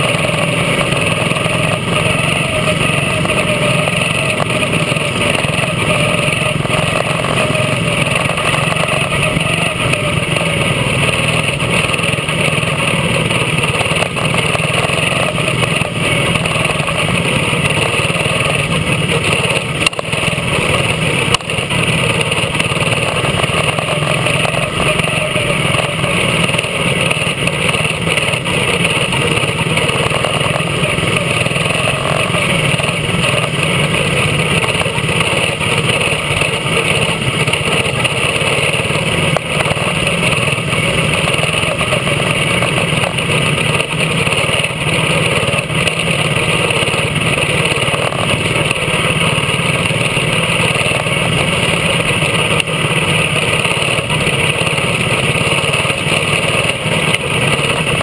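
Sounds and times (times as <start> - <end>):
other race car engines: 0.0 - 58.0
small race car engine running: 0.0 - 58.0.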